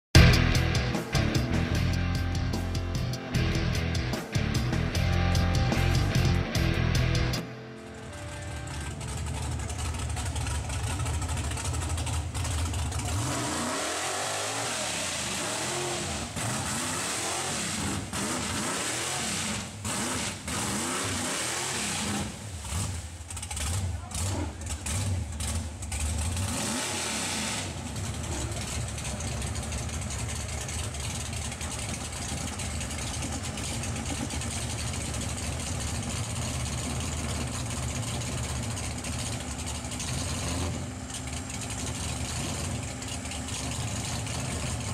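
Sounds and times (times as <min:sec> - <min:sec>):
truck engine revving: 0:00.2 - 0:44.9.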